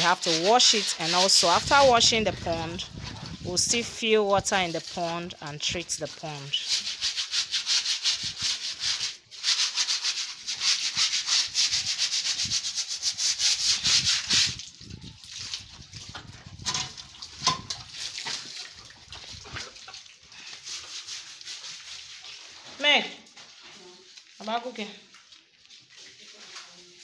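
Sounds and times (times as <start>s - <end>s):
straw broom scrubbing wet concrete: 0.0s - 27.0s.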